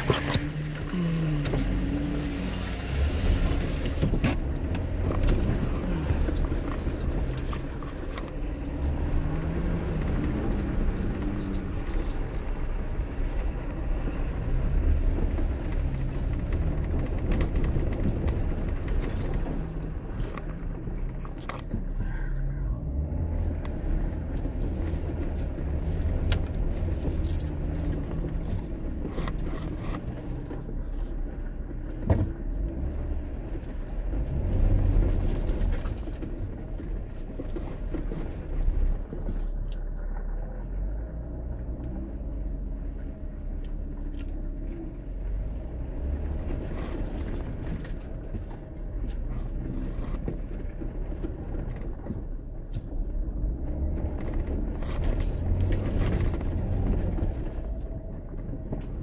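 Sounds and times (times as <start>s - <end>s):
engine rumbling: 0.0s - 59.0s
rattles and clicks in cab: 0.0s - 59.0s.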